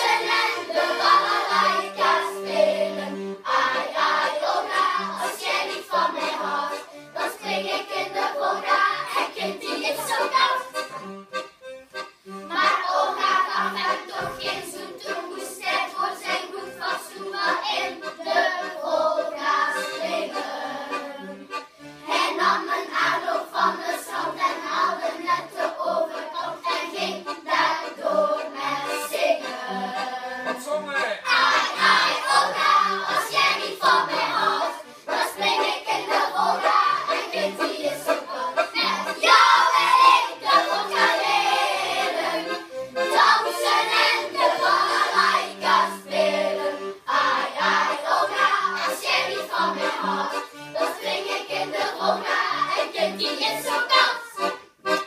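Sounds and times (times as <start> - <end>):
children singing: 0.0 - 11.0, 12.5 - 55.0
accordion accompaniment: 0.0 - 55.0.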